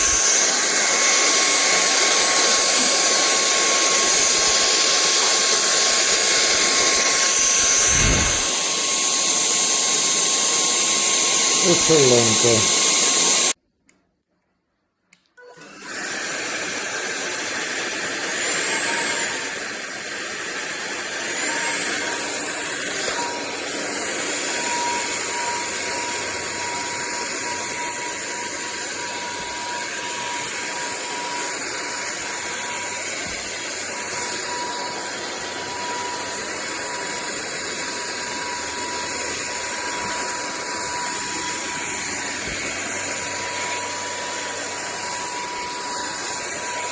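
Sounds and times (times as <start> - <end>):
stick vacuum whooshing whine: 0.0 - 13.6, 15.6 - 46.9.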